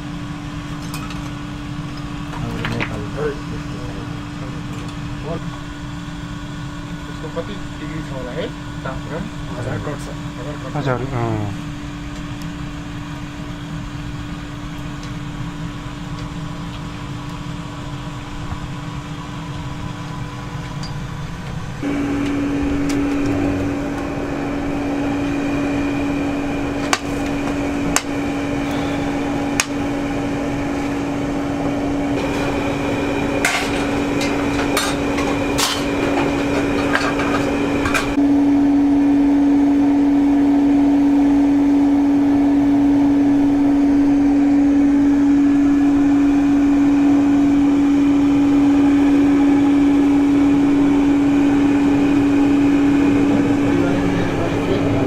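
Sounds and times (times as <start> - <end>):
air blower humming: 0.0 - 55.0.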